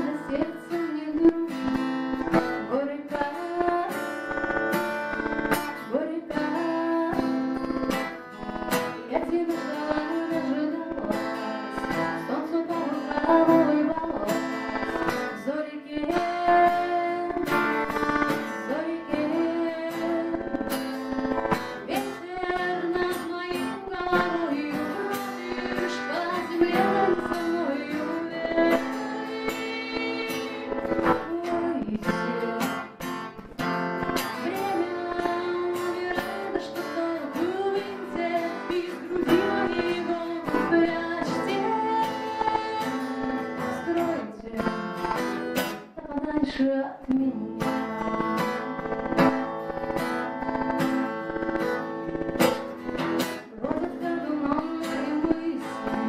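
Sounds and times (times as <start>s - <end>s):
woman singing: 0.0s - 49.4s, 53.4s - 56.0s
acoustic guitar strumming: 0.0s - 56.0s.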